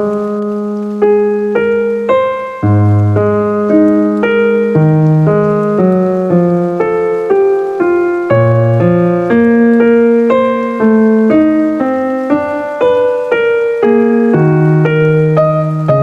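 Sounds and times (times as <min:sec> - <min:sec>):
keyboard chords and bass line: 0:00.0 - 0:16.0.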